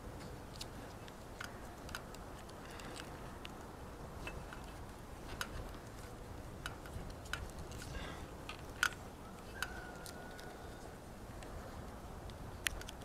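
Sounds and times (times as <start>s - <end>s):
tape wrapping clicks and crackles: 0.2s - 11.6s, 12.2s - 13.0s.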